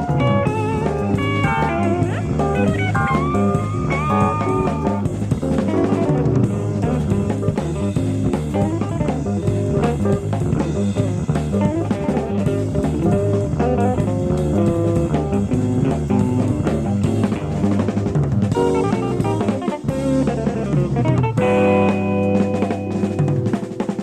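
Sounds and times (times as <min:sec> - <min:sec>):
electric guitar: 0:00.0 - 0:24.0
jazz fusion band playing: 0:00.0 - 0:24.0.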